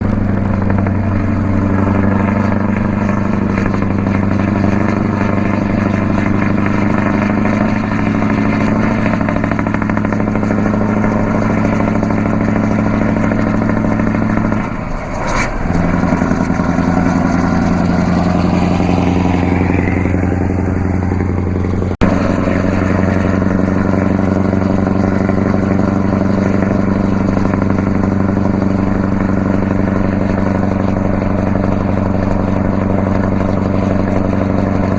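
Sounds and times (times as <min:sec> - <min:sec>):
truck diesel engine cruising: 0:00.0 - 0:34.9.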